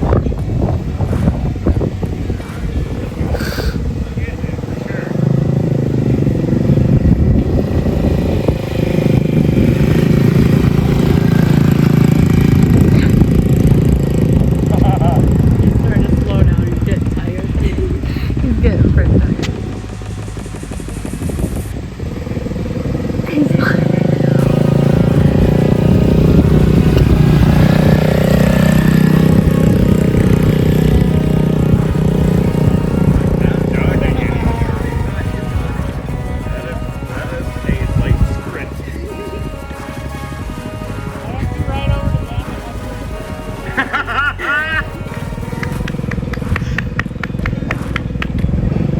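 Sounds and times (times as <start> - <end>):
small engine running under throttle: 0.0 - 48.9.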